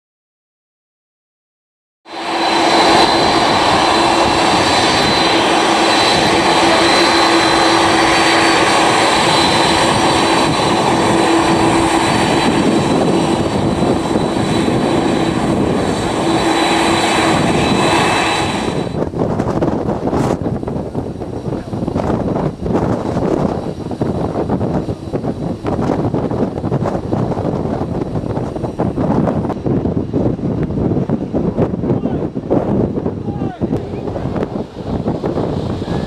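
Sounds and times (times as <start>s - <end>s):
jet engines running: 2.1s - 36.0s.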